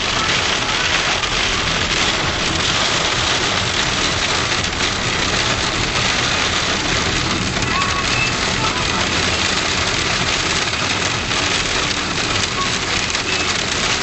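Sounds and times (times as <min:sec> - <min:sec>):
hail clattering on hard surfaces: 0:00.0 - 0:14.0.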